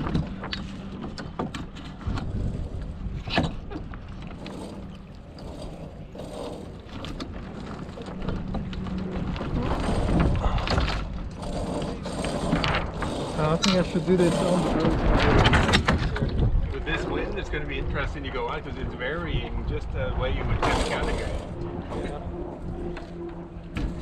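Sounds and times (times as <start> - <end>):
knocks and rattles of sailboat gear: 0.0 - 16.8, 20.4 - 24.0
wind buffeting microphone: 0.0 - 24.0.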